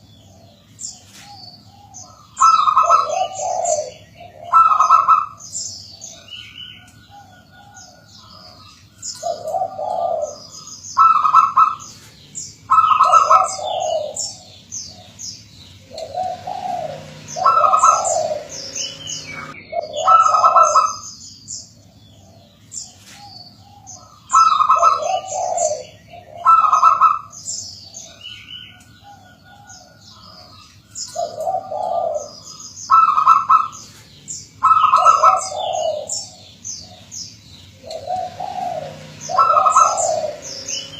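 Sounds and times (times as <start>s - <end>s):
dove cooing: 0.0s - 21.1s, 21.8s - 40.9s
small birds chirping: 0.0s - 40.9s.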